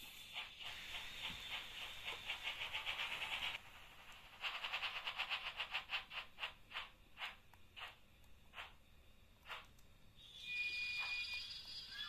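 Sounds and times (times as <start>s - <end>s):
model train rhythmic ticking: 0.0s - 9.8s.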